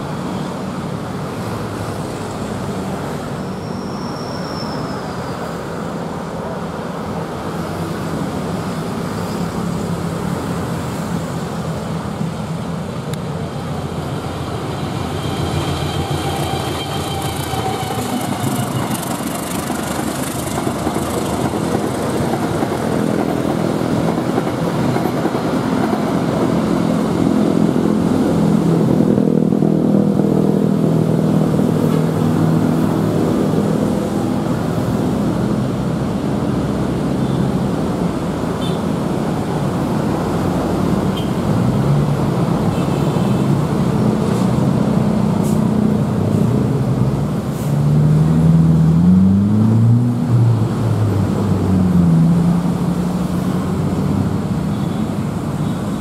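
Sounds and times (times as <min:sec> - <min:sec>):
traffic noise: 0:00.0 - 0:56.0.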